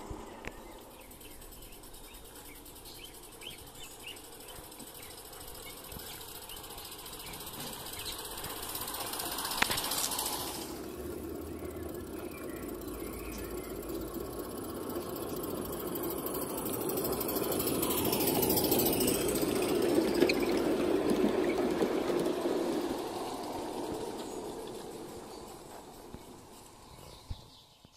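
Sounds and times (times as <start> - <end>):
model train rolling on track: 0.0 - 27.8.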